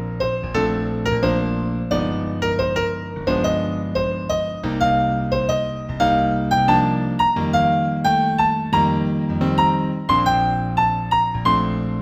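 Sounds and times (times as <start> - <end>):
new-age keyboard music: 0.0 - 12.0.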